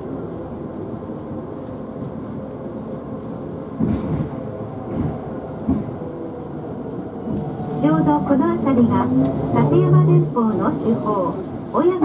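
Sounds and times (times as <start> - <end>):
trolleybus running noise: 0.0 - 12.0.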